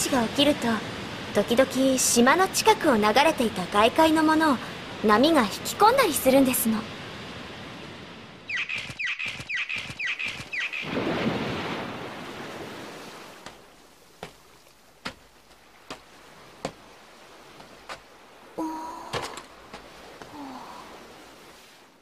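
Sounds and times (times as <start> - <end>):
surf washing on beach: 0.0 - 8.5, 10.2 - 22.0.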